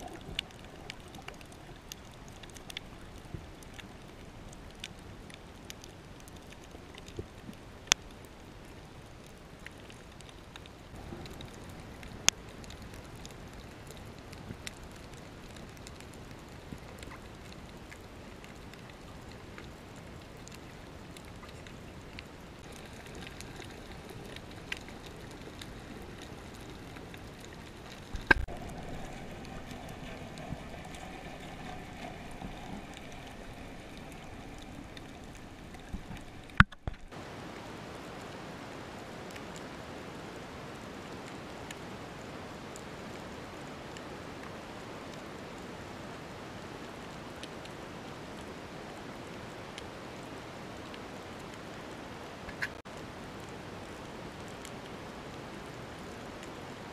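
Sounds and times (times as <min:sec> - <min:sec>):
underwater hiss and crackle: 0:00.0 - 0:56.9.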